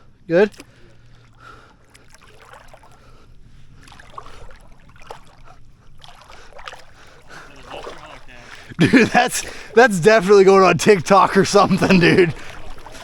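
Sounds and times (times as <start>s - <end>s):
water sloshing against boat: 0.0s - 13.0s.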